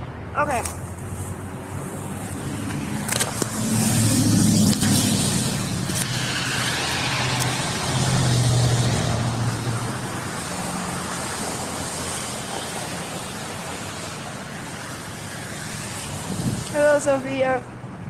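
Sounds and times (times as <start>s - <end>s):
vehicle passing by: 0.9s - 18.0s.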